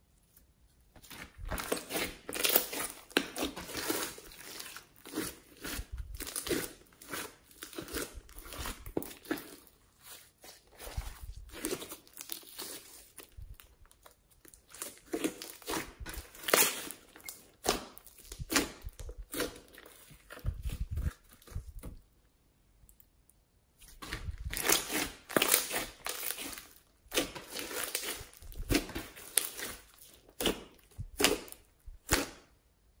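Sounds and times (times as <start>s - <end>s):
slime squishing and crackling: 1.0s - 22.0s, 23.8s - 32.5s.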